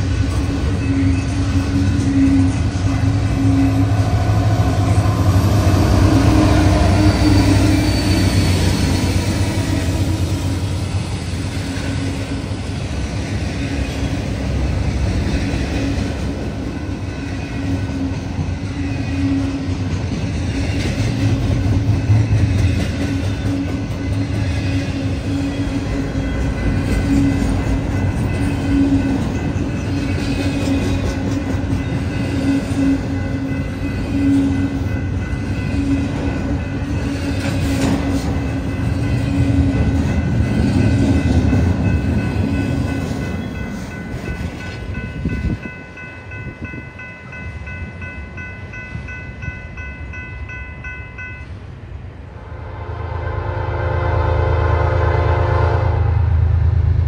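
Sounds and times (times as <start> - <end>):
train wheels rumbling on rails: 0.0 - 53.3.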